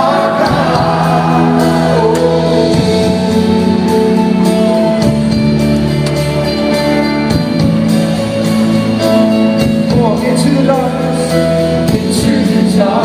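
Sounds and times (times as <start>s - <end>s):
steady drum beat: 0.0s - 13.0s
worship band playing: 0.0s - 13.0s.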